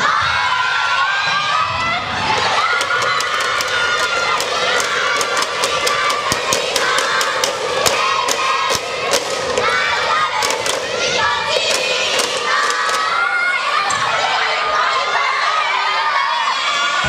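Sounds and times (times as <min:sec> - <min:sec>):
children shouting and cheering: 0:00.0 - 0:17.0.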